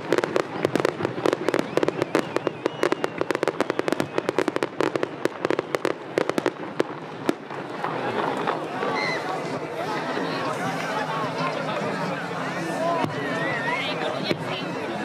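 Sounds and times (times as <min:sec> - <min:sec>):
fireworks bursting and crackling: 0:00.0 - 0:13.5.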